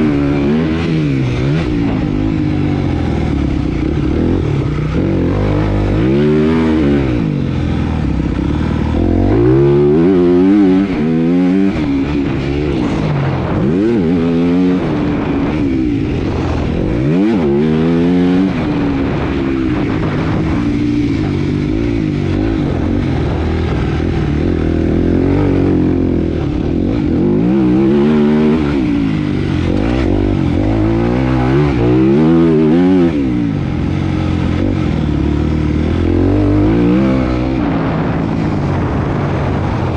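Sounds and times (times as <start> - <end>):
motocross motorcycle engine revving: 0.0 - 39.9.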